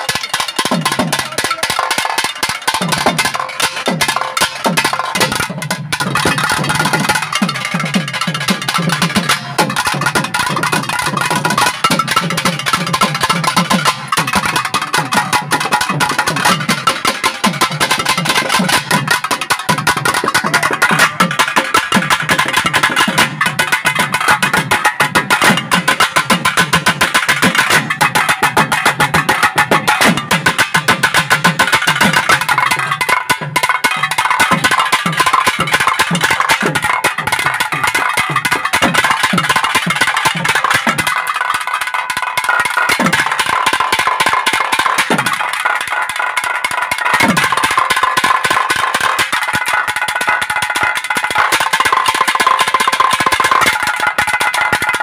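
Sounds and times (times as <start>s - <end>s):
thavil drums playing fast: 0.0s - 55.0s.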